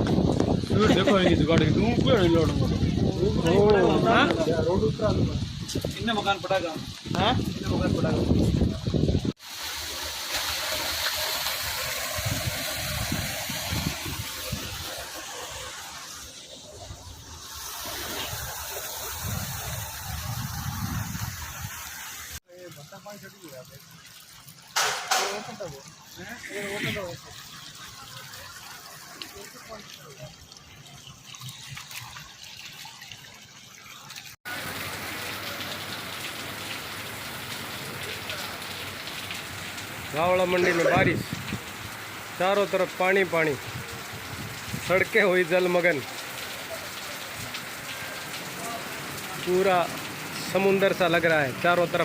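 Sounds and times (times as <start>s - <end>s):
heavy rain falling: 0.0s - 31.0s, 34.4s - 52.0s
rainwater running and trickling: 0.0s - 52.0s
water rushing: 0.0s - 52.0s.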